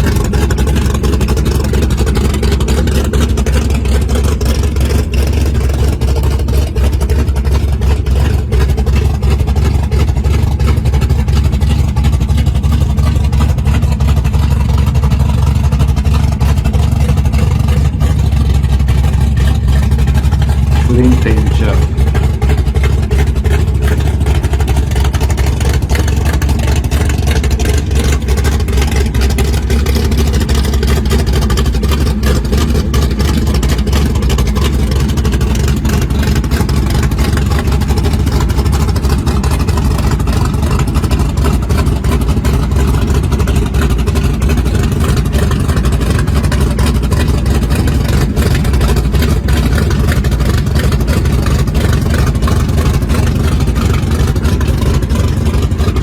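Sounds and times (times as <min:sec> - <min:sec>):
car engine idling with deep rumble: 0:00.0 - 0:56.0.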